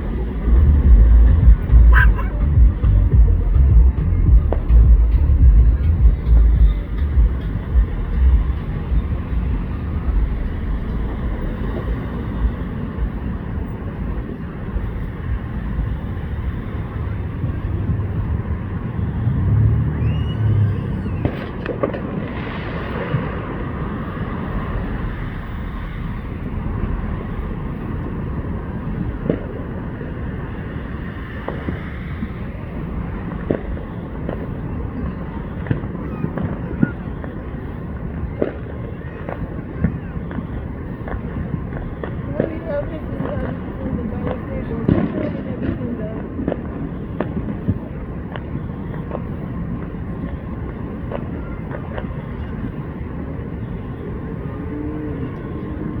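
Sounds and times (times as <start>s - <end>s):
low traffic rumble: 0.0s - 56.0s.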